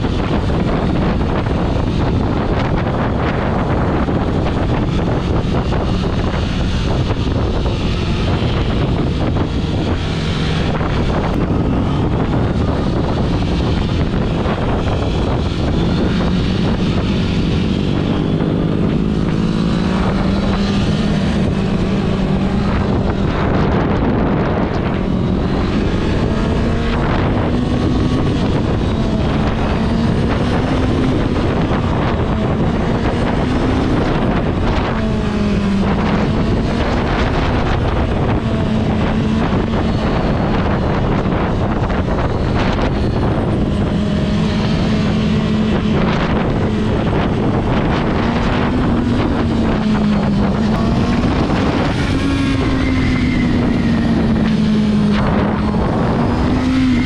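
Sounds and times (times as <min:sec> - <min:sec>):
motorcycle engine cruising: 0:00.0 - 0:57.0
wind rush on microphone: 0:00.0 - 0:57.0.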